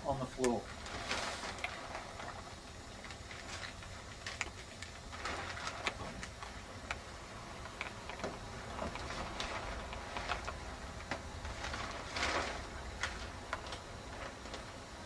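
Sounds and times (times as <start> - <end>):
plastic sheeting crinkling: 0.0 - 15.0.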